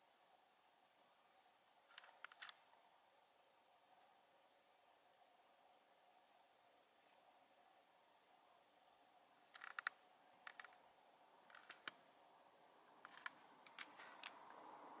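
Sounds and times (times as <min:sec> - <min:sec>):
quiet hiss: 0:00.0 - 0:15.0.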